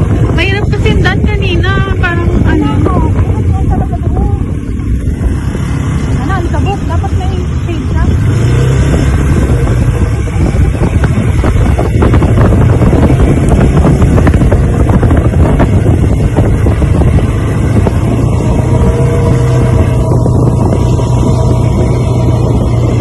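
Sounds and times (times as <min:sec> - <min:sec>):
atv engine running: 0:00.0 - 0:23.0
wind buffeting microphone: 0:00.0 - 0:23.0.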